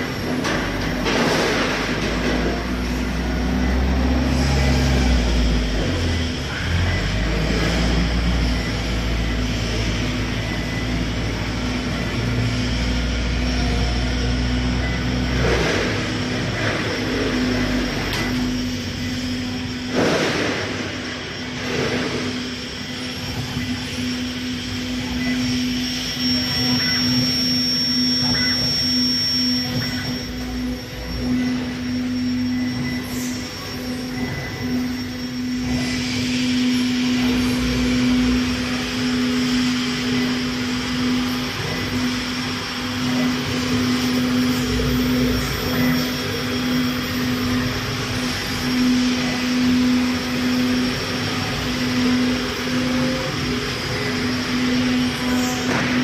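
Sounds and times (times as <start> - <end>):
router machine humming: 0.0 - 56.0.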